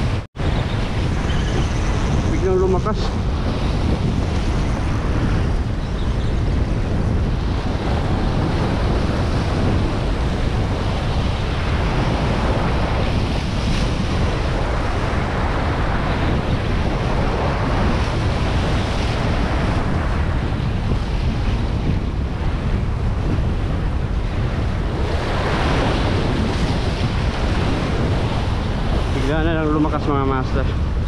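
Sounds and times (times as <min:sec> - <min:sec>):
surf on rocky shore: 0:00.0 - 0:31.0
wind buffeting microphone: 0:00.0 - 0:31.0.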